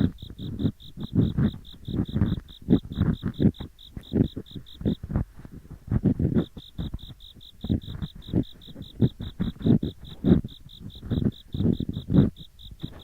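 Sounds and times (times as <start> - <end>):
ear picks scraping: 0.0 - 13.0
insect chirping: 0.0 - 13.0.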